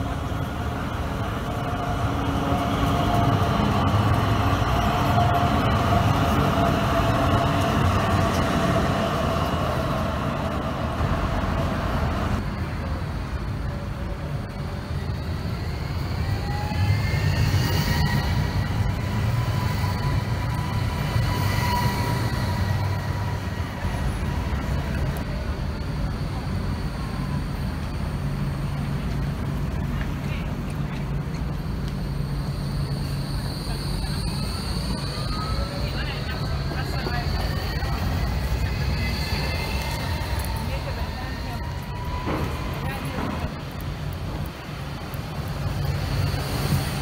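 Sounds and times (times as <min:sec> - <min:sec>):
tram electric drive whining: 0:00.0 - 0:47.0
tram rumbling past: 0:00.0 - 0:47.0.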